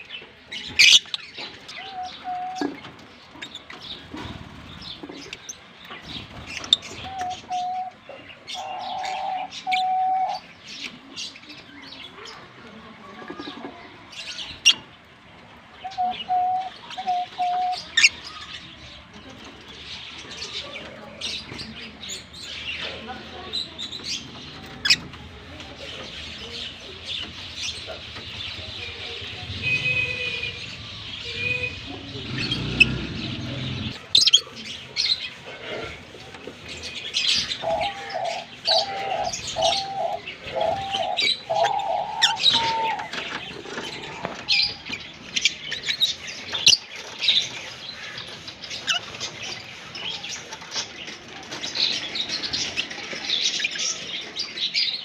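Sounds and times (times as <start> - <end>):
lovebirds chirping and chattering: 0.0 - 55.0.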